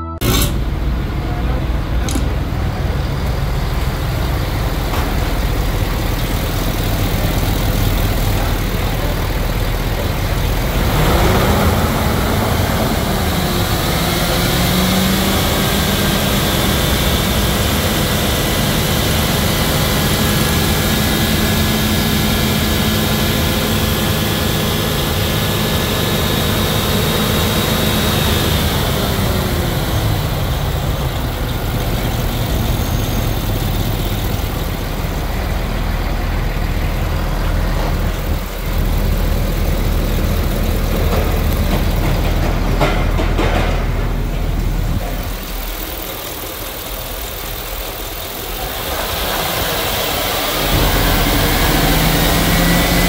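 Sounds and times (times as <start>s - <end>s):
engine whine: 0.0s - 53.0s
engine idling: 0.2s - 53.0s.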